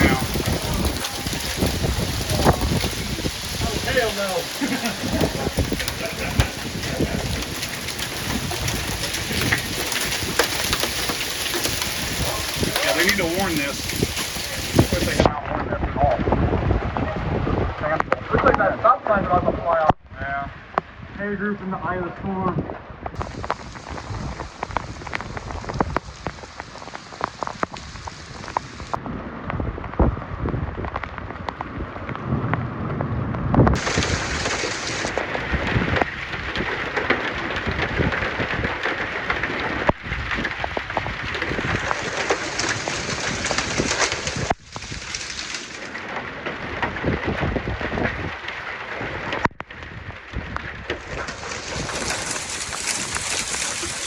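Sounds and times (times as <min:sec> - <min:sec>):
heavy rain: 0:00.0 - 0:54.0
strong gusting wind: 0:00.0 - 0:54.0.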